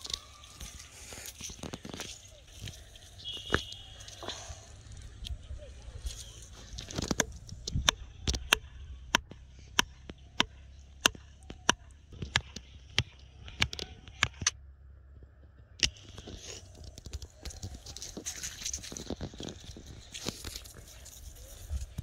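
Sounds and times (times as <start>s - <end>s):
rustling and crackling: 0.0s - 22.0s.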